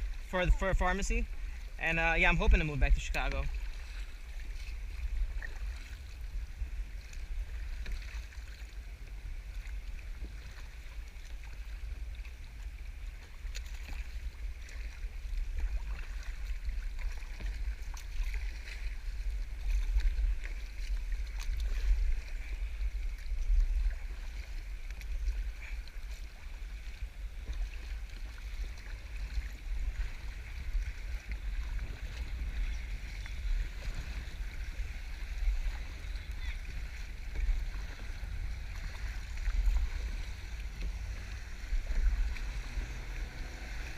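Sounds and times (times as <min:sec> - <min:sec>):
water sloshing and splashing: 0:00.0 - 0:43.9
wind rumble on microphone: 0:00.0 - 0:43.9.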